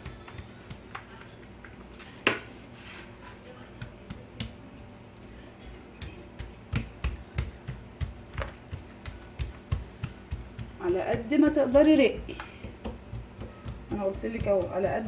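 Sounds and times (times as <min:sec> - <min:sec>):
hands tapping dough: 0:00.0 - 0:01.3, 0:03.7 - 0:15.0.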